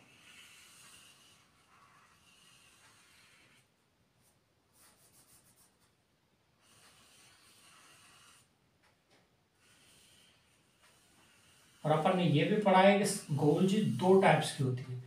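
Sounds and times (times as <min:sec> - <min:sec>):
marker rubbing on whiteboard: 0:00.0 - 0:06.0, 0:06.6 - 0:14.7.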